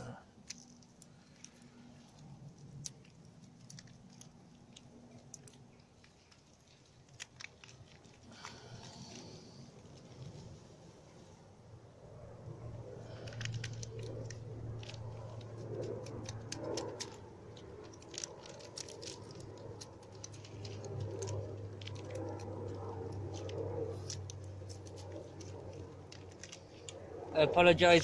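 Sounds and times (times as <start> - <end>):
aircraft droning overhead: 0.0 - 28.0
small things clicking and rattling: 0.4 - 10.4, 13.0 - 27.3.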